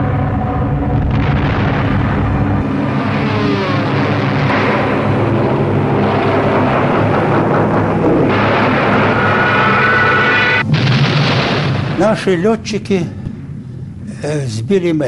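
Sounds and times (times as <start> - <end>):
aircraft engine drone: 0.0 - 14.8.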